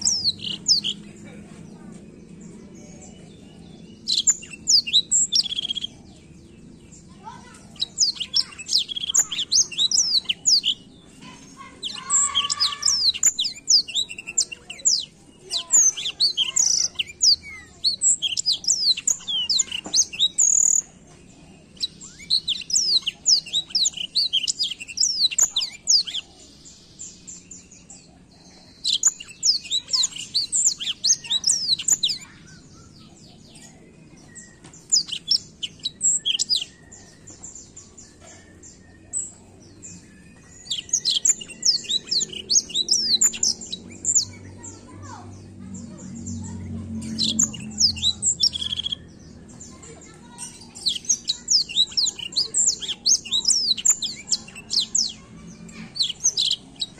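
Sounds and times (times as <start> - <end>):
canary singing chirps and trills: 0.0 - 56.9.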